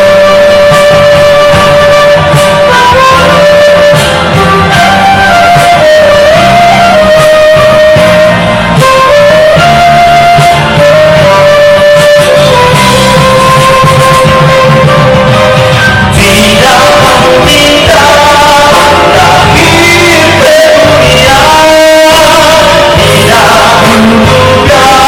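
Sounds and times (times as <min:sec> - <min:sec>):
lead guitar slow melody: 0:00.0 - 0:25.0
rock band backing: 0:00.0 - 0:25.0.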